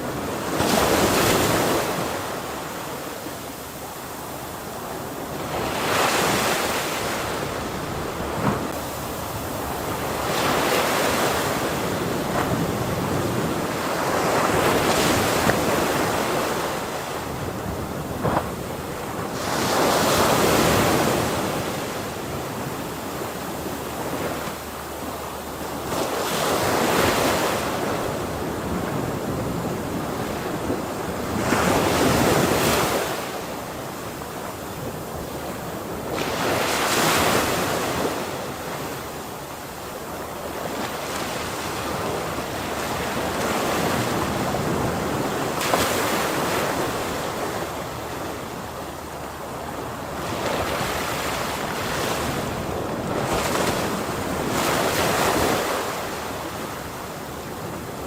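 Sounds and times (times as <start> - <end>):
ocean waves crashing: 0.0 - 39.1, 40.0 - 58.0.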